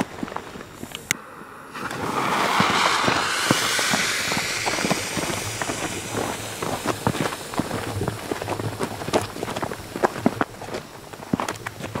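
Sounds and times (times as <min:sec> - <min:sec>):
fountain firework hissing spray: 0:00.8 - 0:11.1.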